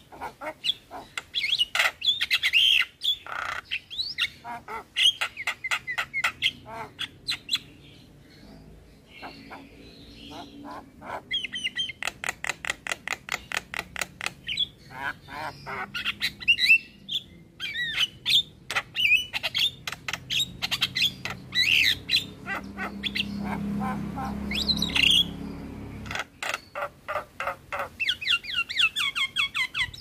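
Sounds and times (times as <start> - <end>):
myna bird singing: 0.0 - 30.0.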